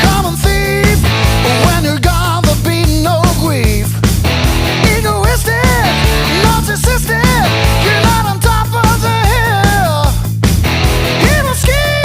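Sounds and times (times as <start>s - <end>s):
loud music with steady beat: 0.0s - 12.0s.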